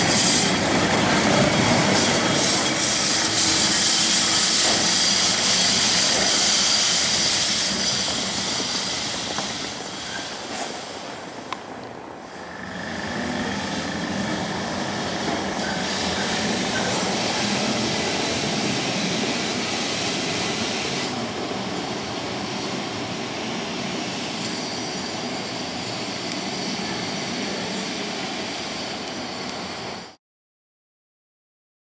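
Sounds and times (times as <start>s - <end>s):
tram wheels and motor rumbling: 0.0s - 30.1s.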